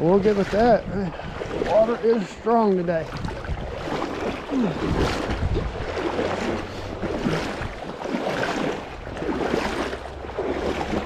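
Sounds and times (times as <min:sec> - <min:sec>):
creek water rushing and splashing: 0:00.0 - 0:11.0.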